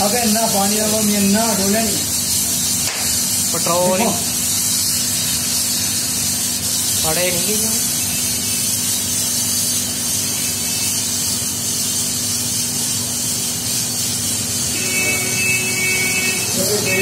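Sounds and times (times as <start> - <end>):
petrol fire hissing: 0.0 - 17.0.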